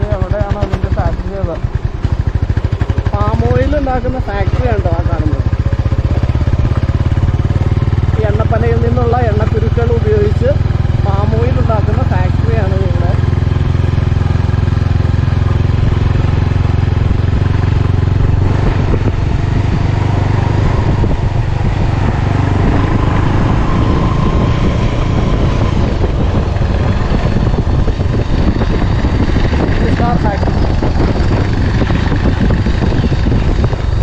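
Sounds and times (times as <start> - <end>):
motorcycle engine droning: 0.0 - 34.0
road and wind noise: 0.0 - 34.0.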